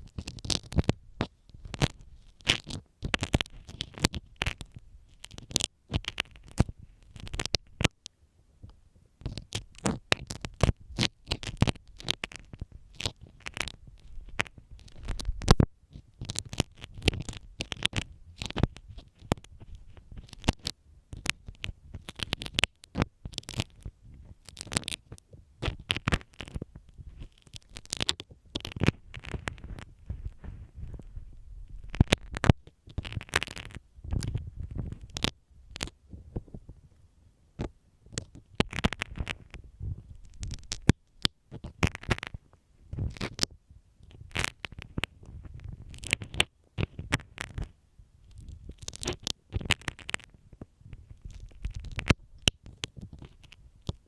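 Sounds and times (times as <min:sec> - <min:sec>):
pin scratching a microphone: 0:00.0 - 0:08.0, 0:09.2 - 0:36.6, 0:37.6 - 0:47.7, 0:48.3 - 0:54.0
low rumbles of pin rubbing: 0:09.2 - 0:54.0.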